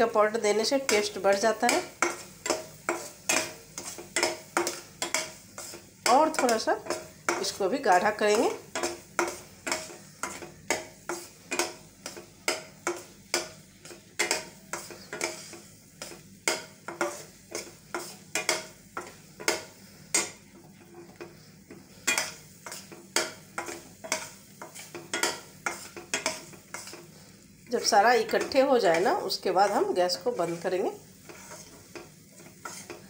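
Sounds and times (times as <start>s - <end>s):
stirring and scraping steel pan: 0.0s - 33.0s.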